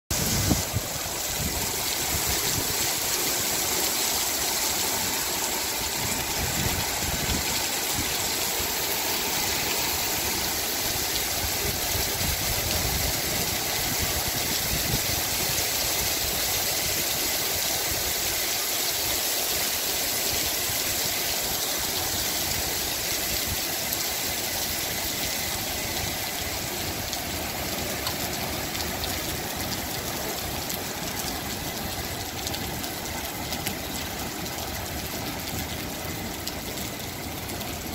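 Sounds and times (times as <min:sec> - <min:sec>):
heavy rain pouring: 0:00.1 - 0:37.9.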